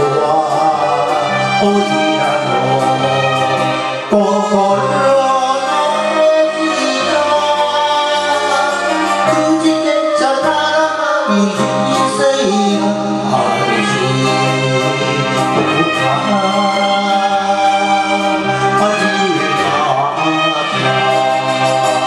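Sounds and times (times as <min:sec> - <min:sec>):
man singing into karaoke microphone: 0:00.0 - 0:22.0
recorded instrumental backing track: 0:00.0 - 0:22.0.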